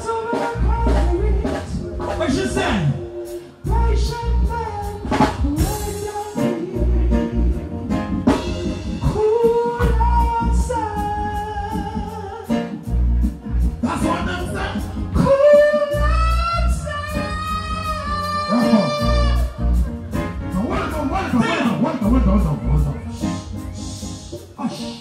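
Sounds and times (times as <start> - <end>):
backing music with heavy bass: 0.0 - 25.0
man singing into microphone: 0.0 - 25.0.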